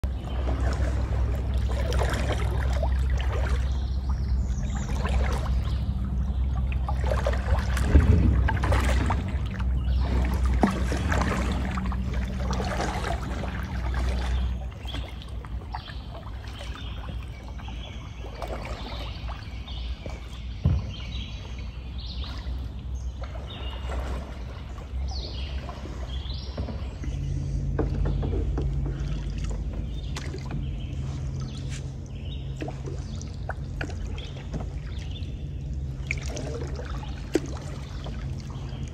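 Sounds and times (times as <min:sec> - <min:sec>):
low hum: 0:00.0 - 0:38.9
paddle strokes splashing: 0:00.0 - 0:38.9
water trickling off paddle: 0:00.0 - 0:38.9.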